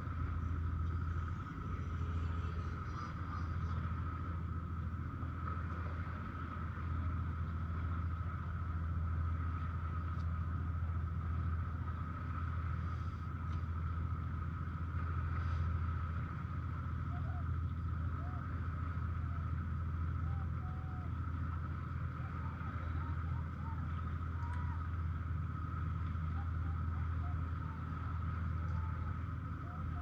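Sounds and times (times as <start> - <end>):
constant high whine: 0.0 - 30.0
low engine drone: 0.0 - 30.0.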